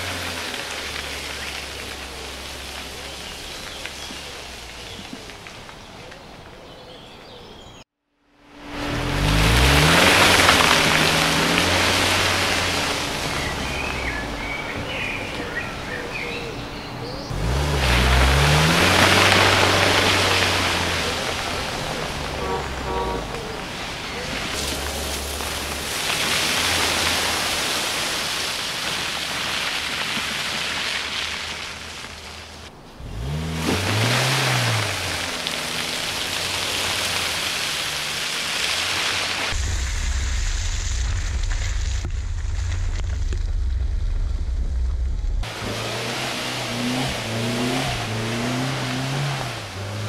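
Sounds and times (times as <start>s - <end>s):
car engine revving: 0.0s - 5.8s, 8.2s - 50.0s
tyres churning through mud: 0.0s - 7.6s, 8.4s - 50.0s.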